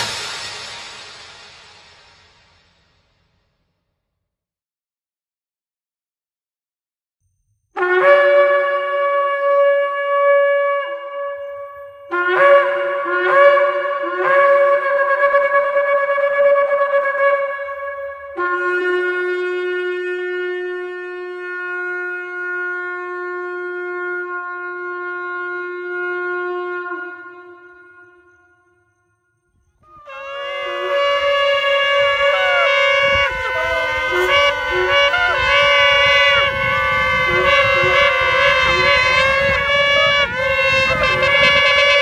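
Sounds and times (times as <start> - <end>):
shofar blasts: 0.0 - 2.0, 7.8 - 29.1, 29.8 - 42.0.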